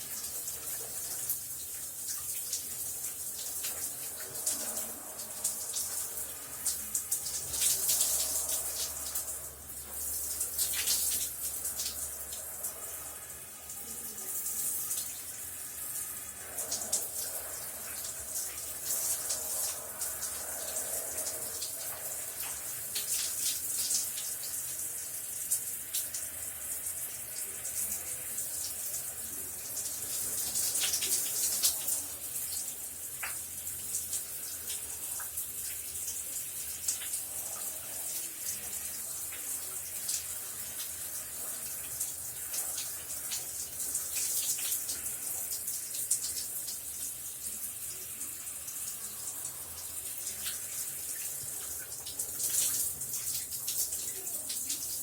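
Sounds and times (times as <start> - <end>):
shower water running: 0.0 - 55.0.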